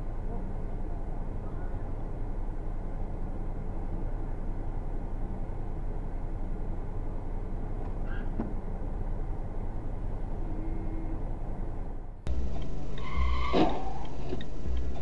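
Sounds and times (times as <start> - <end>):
car engine rumbling: 0.0 - 15.0
street traffic: 0.0 - 15.0.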